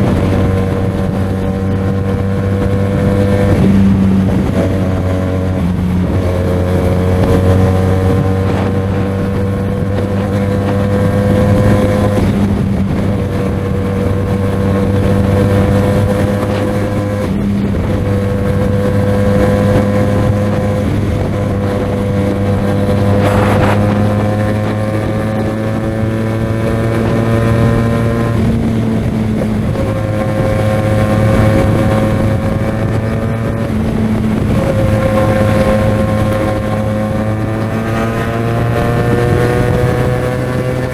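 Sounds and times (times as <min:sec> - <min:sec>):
motorcycle engine cruising: 0:00.0 - 0:40.9
wind on microphone: 0:00.0 - 0:40.9.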